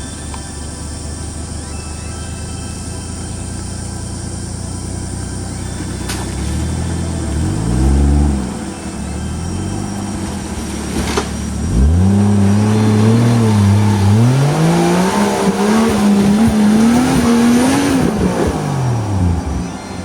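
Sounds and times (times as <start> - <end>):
light crackling under engine: 0.0 - 20.0
off-road vehicle engine revving: 0.0 - 20.0.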